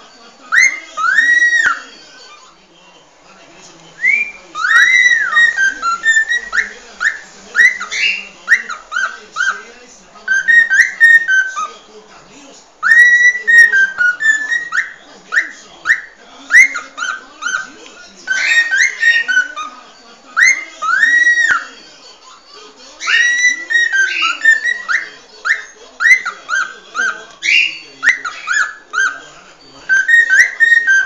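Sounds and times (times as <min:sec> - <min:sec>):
cockatiel whistling song: 0:00.5 - 0:02.6, 0:04.0 - 0:09.6, 0:10.3 - 0:11.8, 0:12.8 - 0:19.8, 0:20.4 - 0:21.7, 0:23.0 - 0:31.0.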